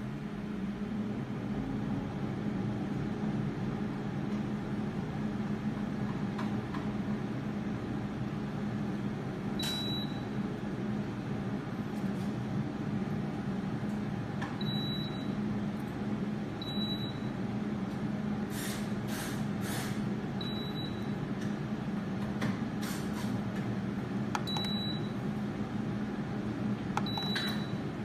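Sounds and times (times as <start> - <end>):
air fryer fan hum: 0.0 - 28.0.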